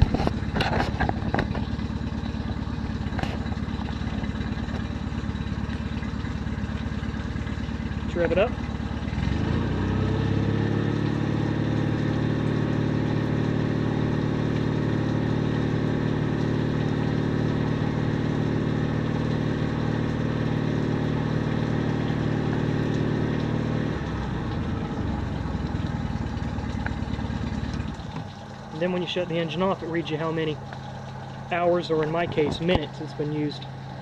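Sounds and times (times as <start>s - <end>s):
outboard motor revving: 0.0s - 34.0s.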